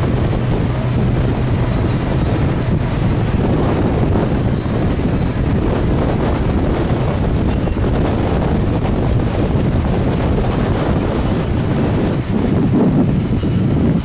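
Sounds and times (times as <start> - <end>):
boat engine running: 0.0 - 14.0
wind buffeting microphone: 0.0 - 14.0.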